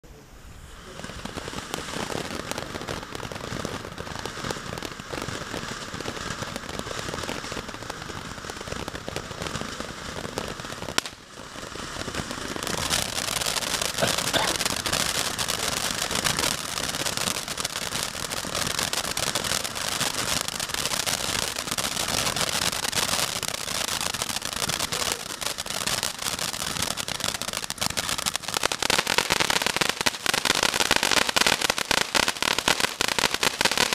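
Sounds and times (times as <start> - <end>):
firework crackling: 0.0 - 33.9
fountain firework hissing sparks: 0.3 - 33.9.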